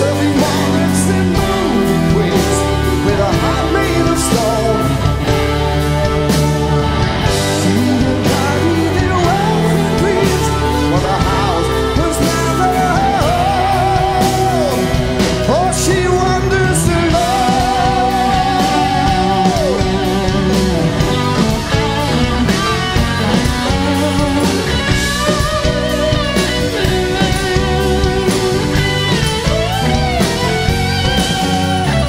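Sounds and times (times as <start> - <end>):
man singing with vibrato: 0.0 - 22.1, 22.9 - 29.2
electric guitar: 0.0 - 32.0
rock band playing live: 0.0 - 32.0.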